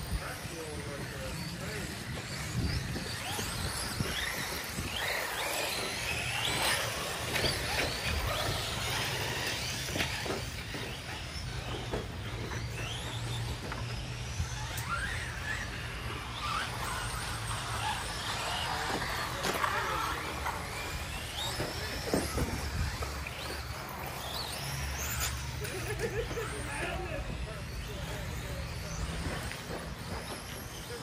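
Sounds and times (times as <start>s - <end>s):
electric motor whines: 0.0s - 31.0s.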